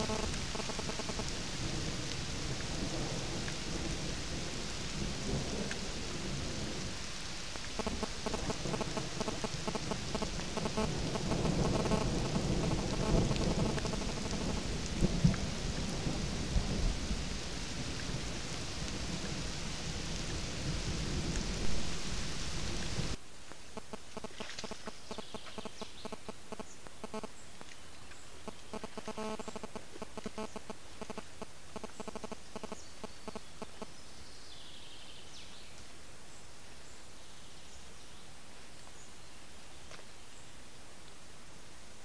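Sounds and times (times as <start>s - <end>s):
rain pattering on leaves: 0.0s - 42.0s.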